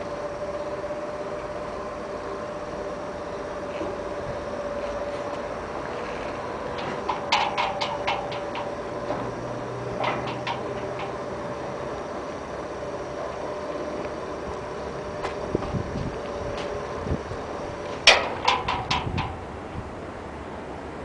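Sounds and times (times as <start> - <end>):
machinery hum: 0.0 - 21.0.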